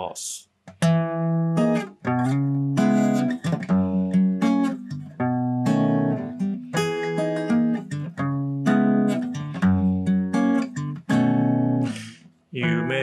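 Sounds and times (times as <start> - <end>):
acoustic guitar chords: 0.7 - 13.0.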